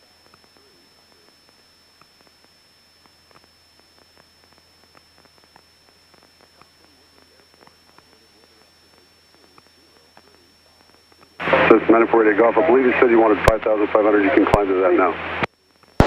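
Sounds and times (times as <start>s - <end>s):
faint clicks and crackles: 0.0s - 12.6s, 13.4s - 16.0s
radio static hiss and hum: 0.0s - 16.0s.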